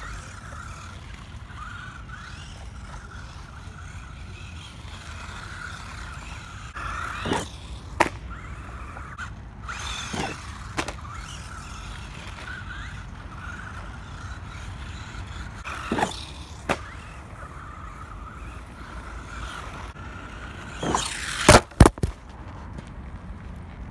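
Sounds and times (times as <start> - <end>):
toy truck electric motor whining: 0.0 - 21.9.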